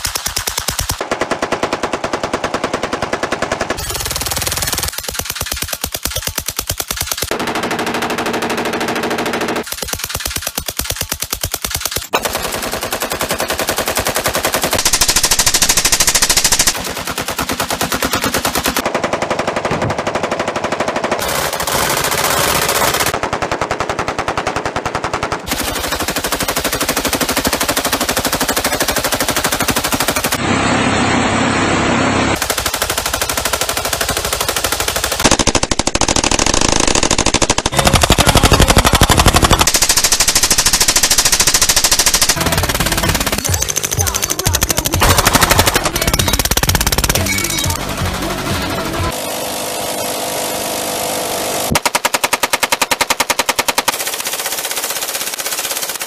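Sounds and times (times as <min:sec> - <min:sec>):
automatic gunfire: 0:00.0 - 0:30.4, 0:32.4 - 0:47.8, 0:51.7 - 0:56.0.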